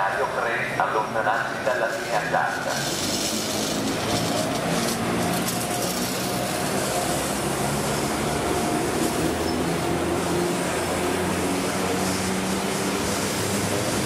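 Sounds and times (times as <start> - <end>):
electric locomotive passing: 0.0 - 14.0.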